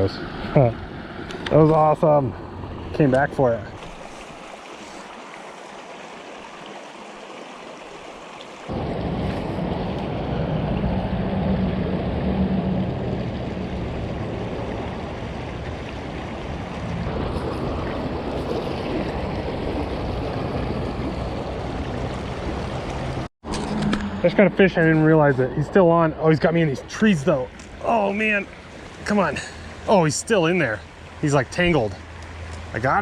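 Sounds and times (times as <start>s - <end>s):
creek running over shallows: 0.0s - 33.0s.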